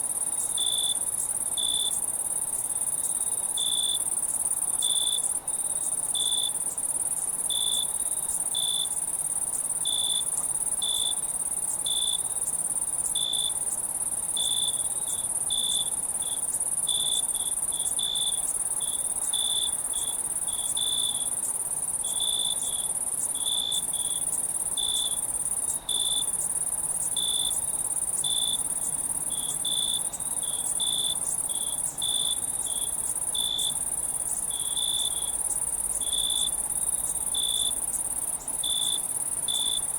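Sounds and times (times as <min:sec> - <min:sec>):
high-pitched cricket trill: 0:00.1 - 0:39.9.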